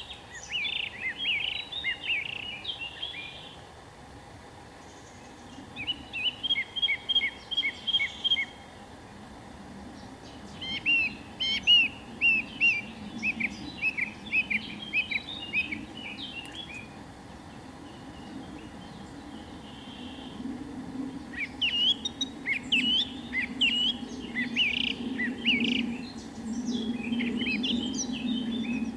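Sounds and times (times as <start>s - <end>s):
songbird chirping: 0.0s - 3.7s, 4.7s - 28.9s.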